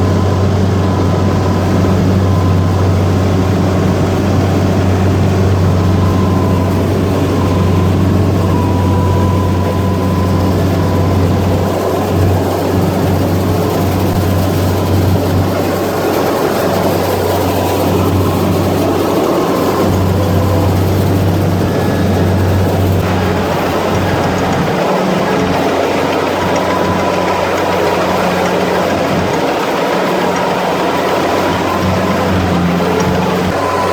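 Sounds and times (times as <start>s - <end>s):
combine harvester engine drone: 0.0s - 33.9s
threshing machinery noise: 0.0s - 33.9s.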